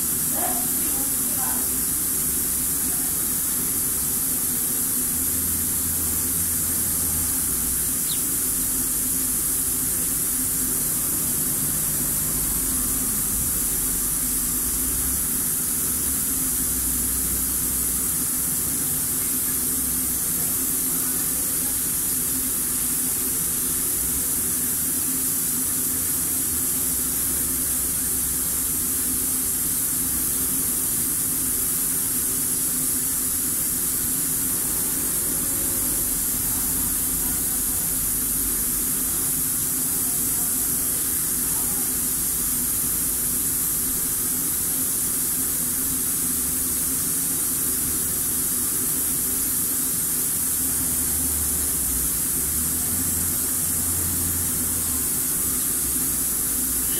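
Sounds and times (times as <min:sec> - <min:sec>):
steady hiss: 0:00.0 - 0:56.9.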